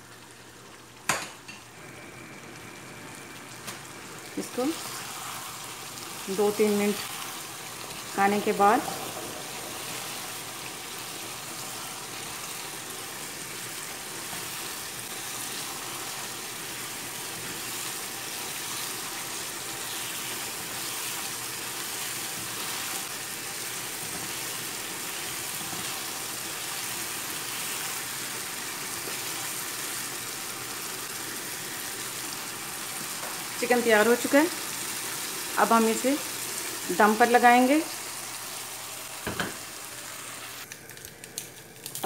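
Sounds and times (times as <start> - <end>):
food sizzling in a pot: 0.0 - 42.0.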